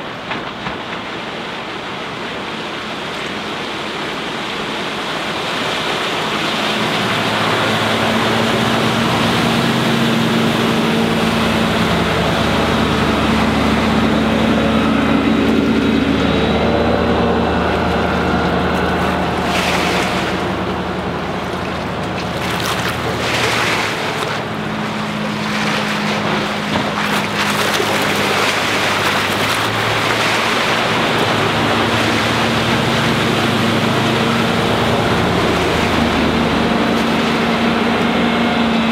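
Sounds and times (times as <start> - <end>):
boat engine running at speed: 0.0 - 38.9
hull and wake rushing on water: 0.0 - 38.9.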